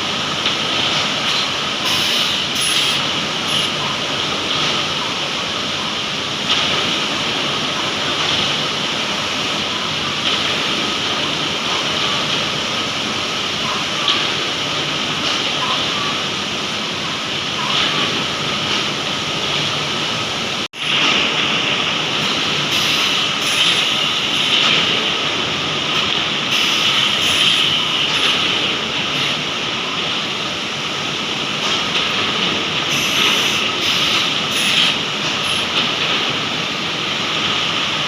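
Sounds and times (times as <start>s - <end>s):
industrial machinery running: 0.0s - 38.0s.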